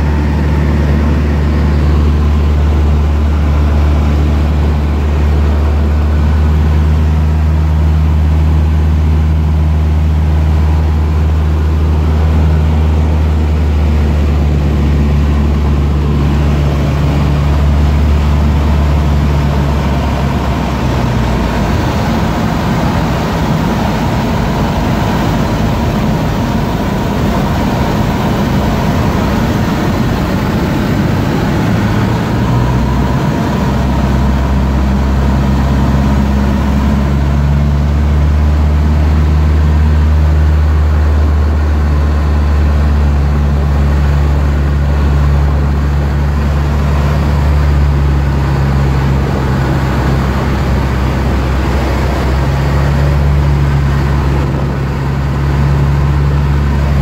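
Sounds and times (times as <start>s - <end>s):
airplane engine droning: 0.0s - 57.0s.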